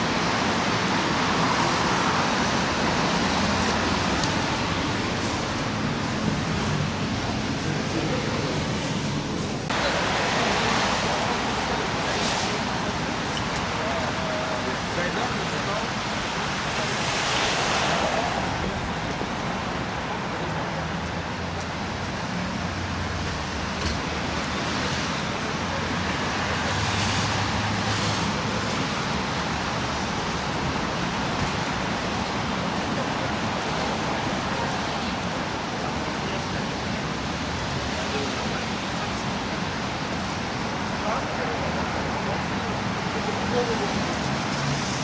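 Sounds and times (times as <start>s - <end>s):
faint voices: 0.0s - 29.4s, 30.2s - 45.0s
cars passing: 0.0s - 45.0s.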